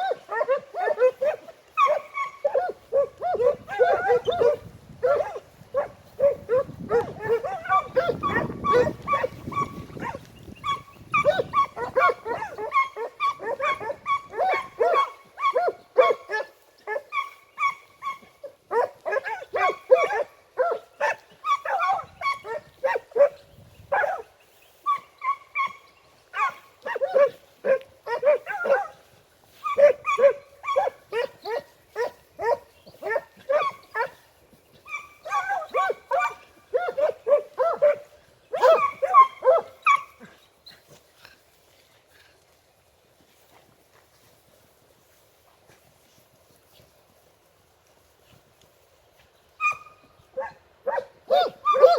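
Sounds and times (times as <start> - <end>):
hounds baying: 0.0 - 41.0, 49.6 - 51.9.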